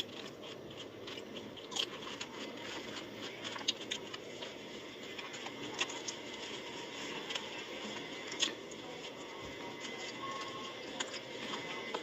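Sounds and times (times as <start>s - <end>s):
crisp food crunching: 0.0s - 12.0s.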